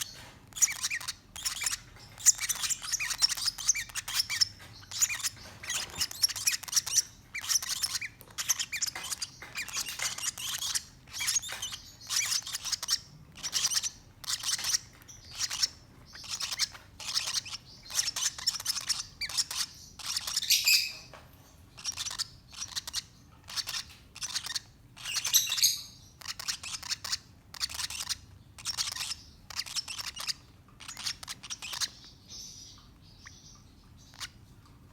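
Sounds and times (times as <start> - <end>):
parrot chicks chirping: 0.0 - 34.9.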